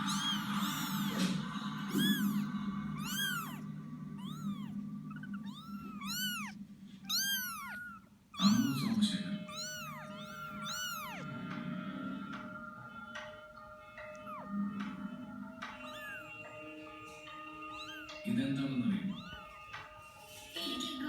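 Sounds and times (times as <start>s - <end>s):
kittens mewing: 0.0s - 12.6s, 14.0s - 19.9s.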